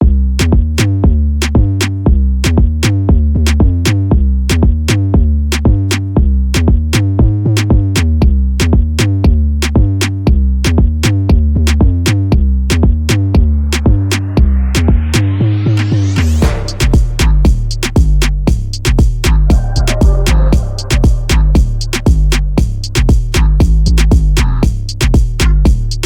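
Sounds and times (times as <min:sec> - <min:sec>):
deep bass line: 0:00.0 - 0:26.0
drum machine beat: 0:00.0 - 0:26.0.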